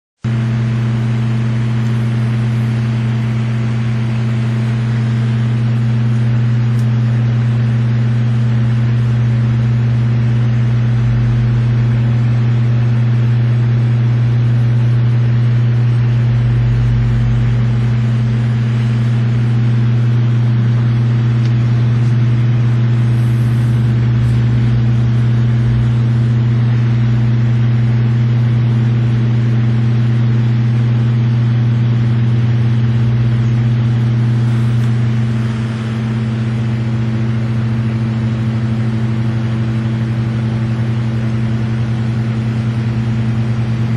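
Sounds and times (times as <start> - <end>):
low mechanical hum with hiss: 0.3 - 43.9.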